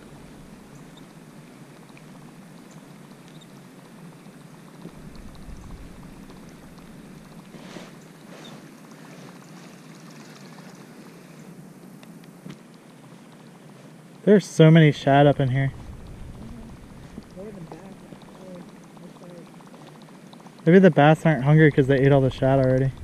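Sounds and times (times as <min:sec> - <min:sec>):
water lapping against kayak hull: 0:00.0 - 0:11.6, 0:15.4 - 0:23.0
small ticks: 0:00.3 - 0:14.3, 0:15.7 - 0:23.0.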